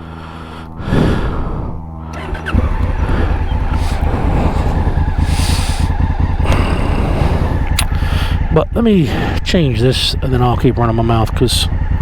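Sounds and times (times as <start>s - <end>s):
motorcycle engine starting: 0.0s - 12.0s.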